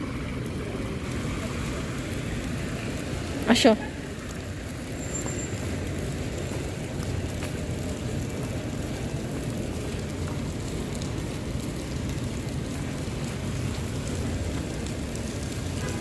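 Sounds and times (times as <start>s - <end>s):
raindrops ticking: 0.0s - 16.0s
steady rain: 0.0s - 16.0s.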